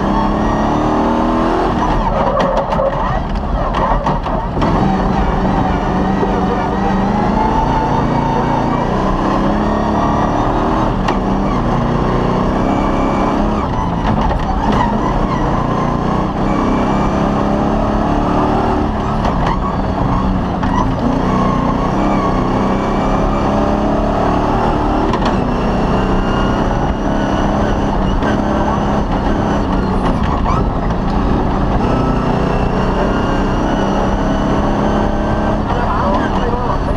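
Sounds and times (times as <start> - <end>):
rally car engine accelerating: 0.0 - 36.9
tyre and chassis rumble: 0.0 - 36.9.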